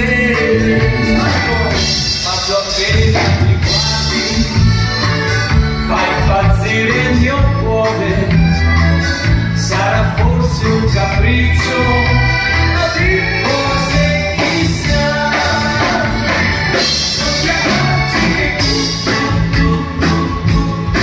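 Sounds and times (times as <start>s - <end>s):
man singing into a microphone: 0.0s - 5.0s, 5.8s - 8.7s, 9.6s - 20.8s
accordion: 0.0s - 21.0s
electric guitar: 0.0s - 21.0s
low bass line: 0.0s - 21.0s.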